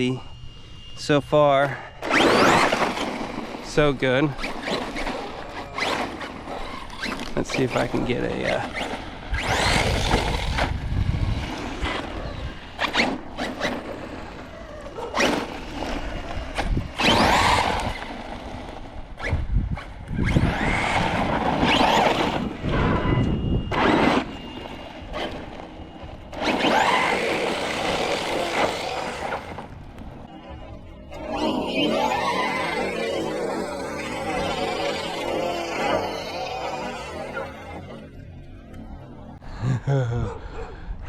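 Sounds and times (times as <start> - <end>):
electric motor whine: 0.0 - 39.4.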